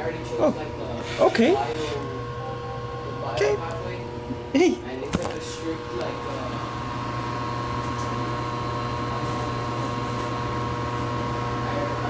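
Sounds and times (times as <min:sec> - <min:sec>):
kitchen appliance fan humming: 0:00.0 - 0:12.0.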